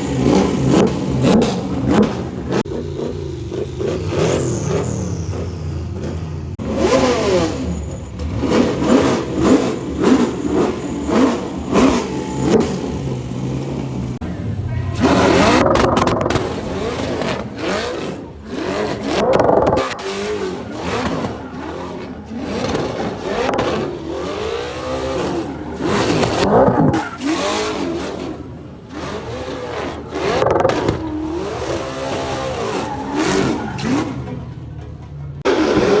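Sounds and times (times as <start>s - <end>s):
car engines revving hard: 0.0s - 36.0s.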